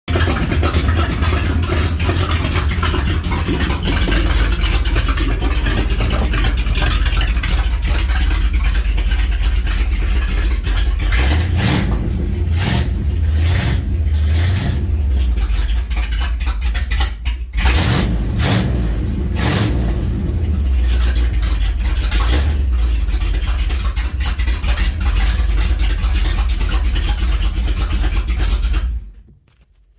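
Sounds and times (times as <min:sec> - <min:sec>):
truck engine rumbling and revving: 0:00.1 - 0:29.2.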